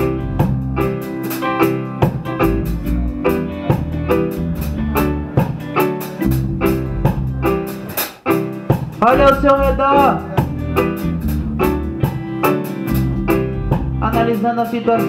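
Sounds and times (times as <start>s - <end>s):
bass: 0.0s - 15.0s
drum kit: 0.0s - 15.0s
electric guitar: 0.0s - 15.0s
keyboard chords: 0.0s - 15.0s.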